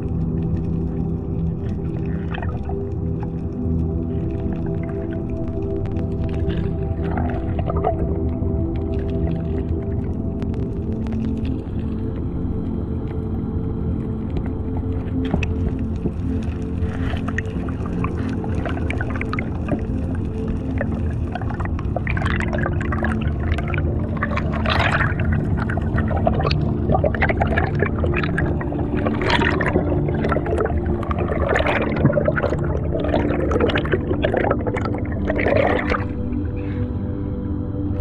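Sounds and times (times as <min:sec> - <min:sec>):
slow ambient music: 0:00.0 - 0:38.0
underwater bubbling: 0:00.0 - 0:38.0.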